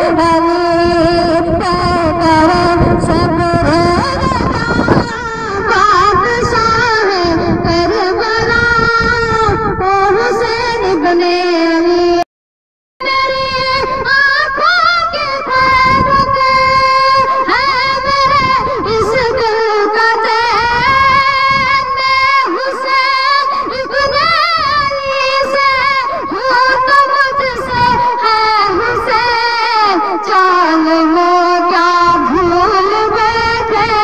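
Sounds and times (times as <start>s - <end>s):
boy singing into a microphone: 0.0s - 12.2s, 13.0s - 34.0s.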